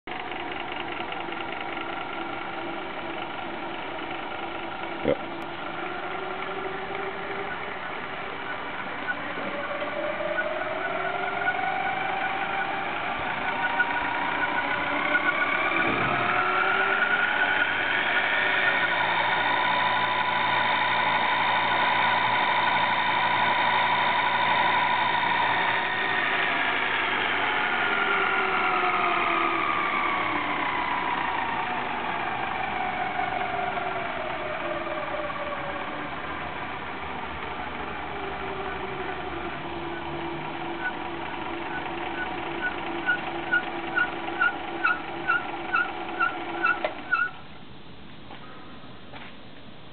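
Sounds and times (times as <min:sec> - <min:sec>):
mixer motor whine: 0:05.0 - 0:47.2.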